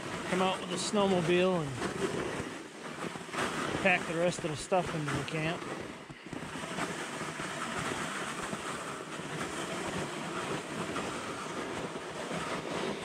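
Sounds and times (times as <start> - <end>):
plastic sled scraping over snow: 0.0 - 13.0.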